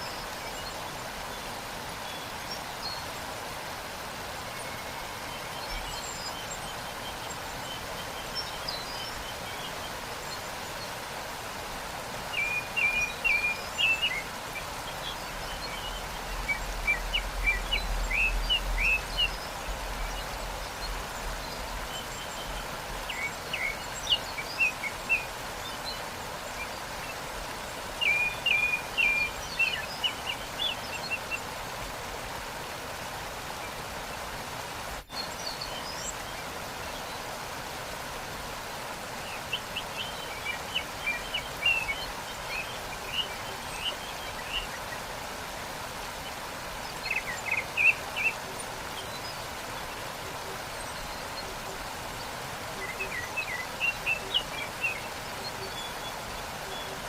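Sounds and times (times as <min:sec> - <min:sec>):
small birds chirping: 0:00.0 - 0:57.0
waterfall rushing: 0:00.0 - 0:57.0.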